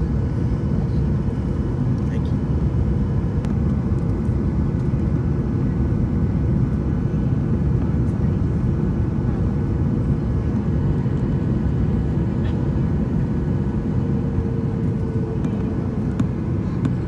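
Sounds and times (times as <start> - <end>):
jet engines and airflow rumble: 0.0 - 17.0.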